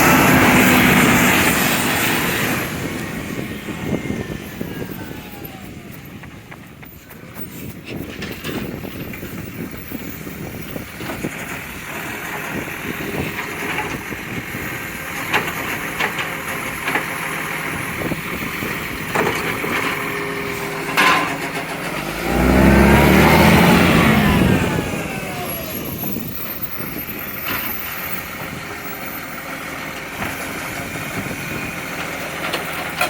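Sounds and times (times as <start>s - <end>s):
garbage truck engine running: 0.0s - 33.0s.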